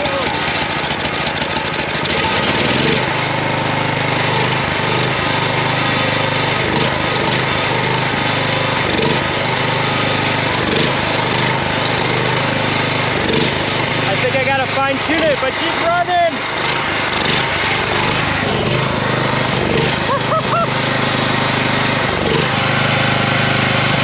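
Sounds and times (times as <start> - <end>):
generator engine running unevenly: 0.0 - 24.0.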